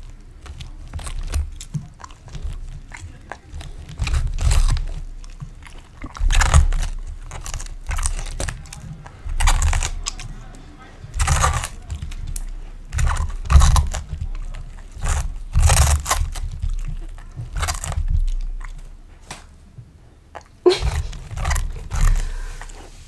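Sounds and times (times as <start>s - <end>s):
dog crunching cabbage: 0.0s - 23.0s.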